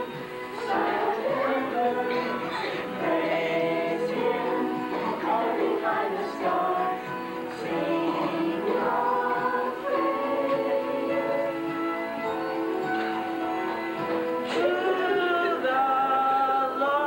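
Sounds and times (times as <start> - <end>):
choir singing: 0.0 - 17.0
musical backing: 0.0 - 17.0.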